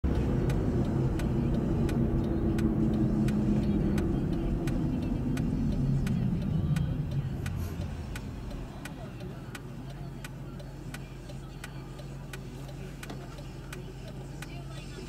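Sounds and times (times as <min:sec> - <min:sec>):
car engine and road noise: 0:00.0 - 0:15.0
turn signal ticking: 0:00.0 - 0:15.0.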